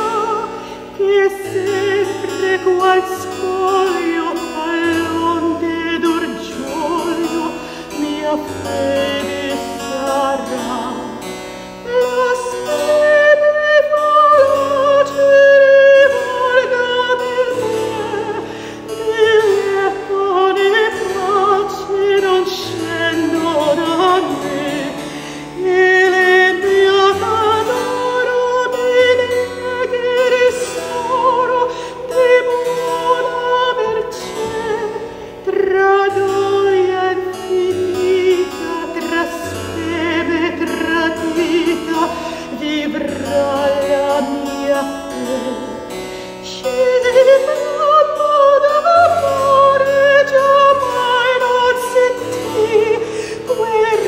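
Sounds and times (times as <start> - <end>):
woman singing: 0.0 - 54.0.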